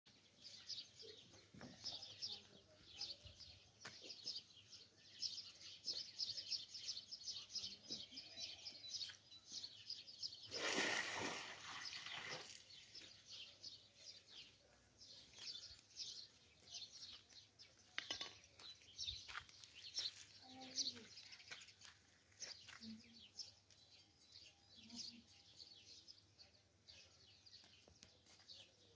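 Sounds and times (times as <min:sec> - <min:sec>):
small birds chirping: 0:00.1 - 0:28.9.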